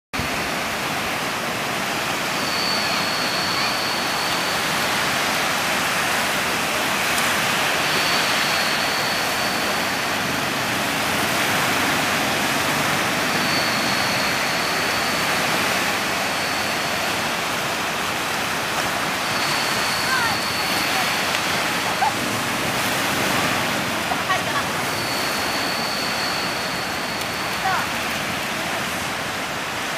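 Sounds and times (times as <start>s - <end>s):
sea surf washing onto beach: 0.2s - 29.9s
thin high tone: 2.0s - 29.8s.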